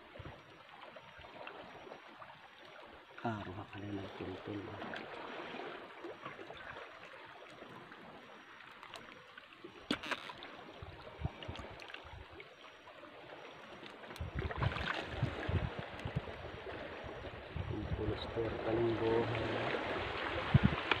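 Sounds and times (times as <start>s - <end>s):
small water splashes: 0.0s - 17.6s, 18.3s - 21.0s
water trickling and lapping: 0.0s - 21.0s.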